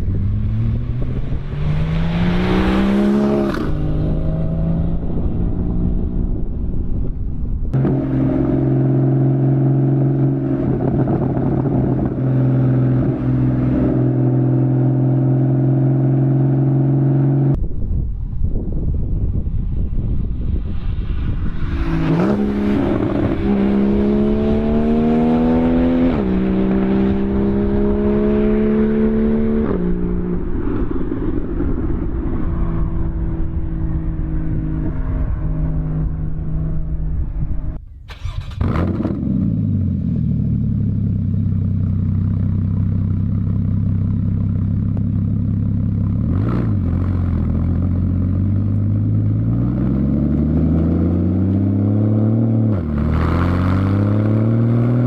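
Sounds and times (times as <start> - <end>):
car engine accelerating: 0.0 - 17.6, 20.6 - 55.0.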